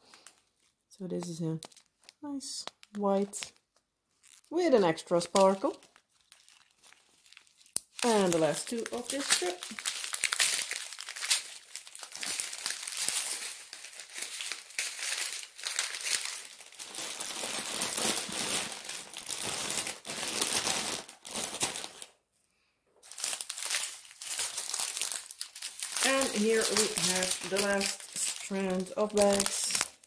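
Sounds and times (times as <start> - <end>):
plastic bags crinkling: 0.0 - 22.2, 23.0 - 30.0.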